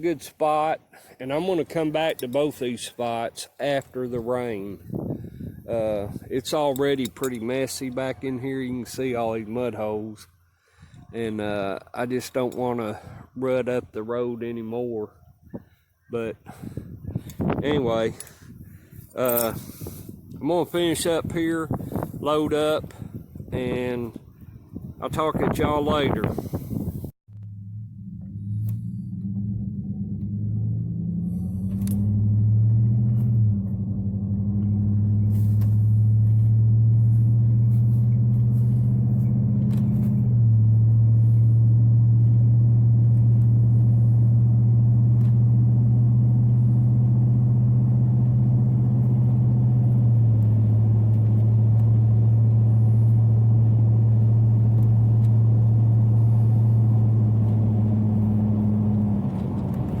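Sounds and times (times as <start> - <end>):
vehicle engine rumbling: 0.0 - 60.0.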